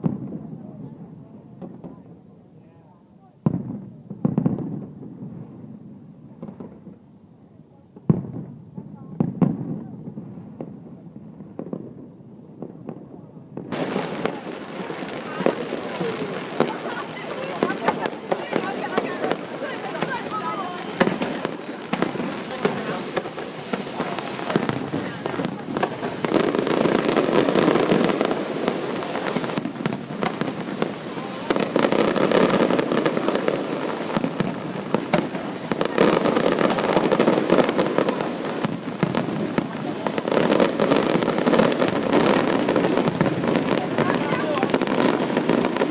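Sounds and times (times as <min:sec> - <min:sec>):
dense fireworks crackling: 0:00.0 - 0:45.9
fireworks bangs: 0:00.0 - 0:45.9.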